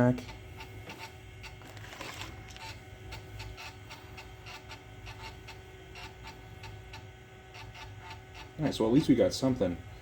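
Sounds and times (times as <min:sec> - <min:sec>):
cooling fan hum: 0:00.0 - 0:10.0
hard drive spinning: 0:00.0 - 0:10.0
disk drive clicking: 0:00.2 - 0:08.6.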